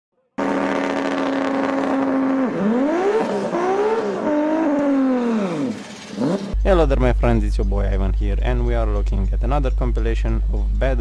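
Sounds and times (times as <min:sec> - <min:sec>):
car engine revving: 0:00.4 - 0:10.8.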